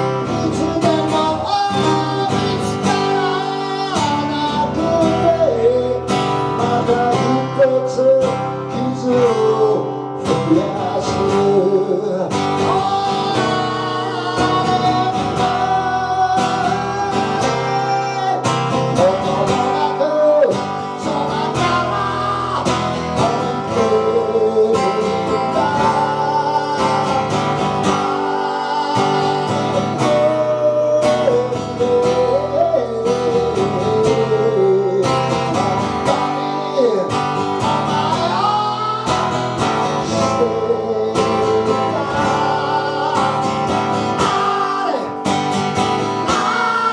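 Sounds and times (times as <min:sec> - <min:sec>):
strummed acoustic guitar song: 0:00.0 - 0:46.9.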